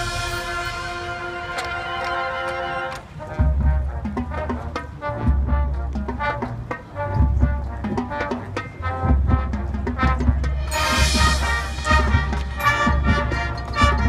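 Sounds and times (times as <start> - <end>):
marching band playing: 0.0 - 14.0
short rhythmic brass notes: 0.0 - 14.0.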